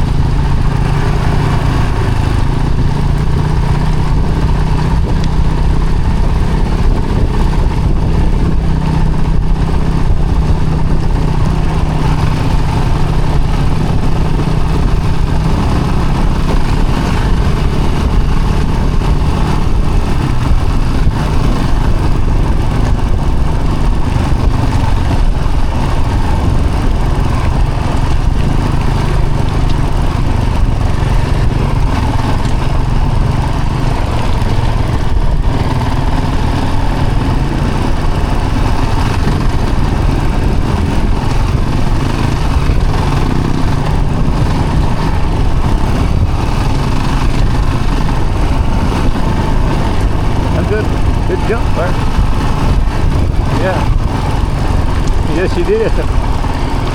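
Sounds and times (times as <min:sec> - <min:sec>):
vehicle engine running: 0:00.0 - 0:56.9.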